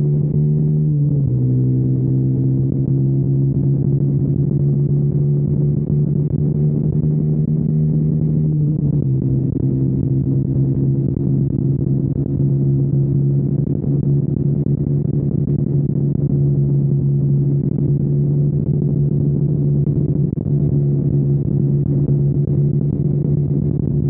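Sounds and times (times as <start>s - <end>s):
muffled motorcycle engine: 0.0s - 24.0s.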